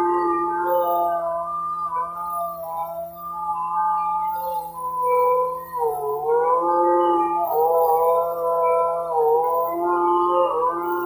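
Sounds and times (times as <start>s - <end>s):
gliding sustained chords: 0.0s - 11.0s.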